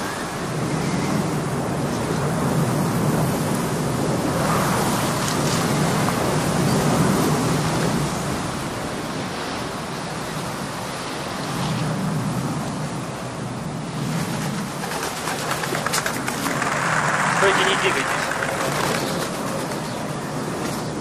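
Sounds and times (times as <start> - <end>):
wind rushing through grass and trees: 0.0 - 21.0.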